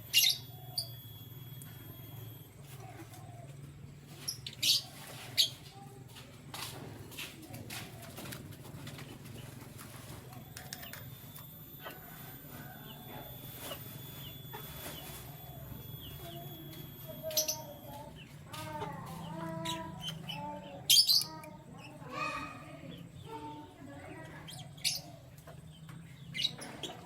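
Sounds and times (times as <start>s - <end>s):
birds chirping: 0.0s - 5.9s, 6.6s - 27.0s.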